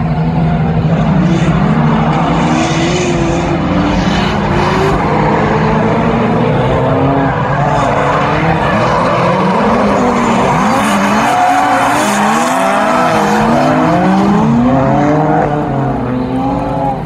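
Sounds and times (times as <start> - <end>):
car engines revving: 0.0 - 17.0
sliding tyre noise: 0.0 - 17.0.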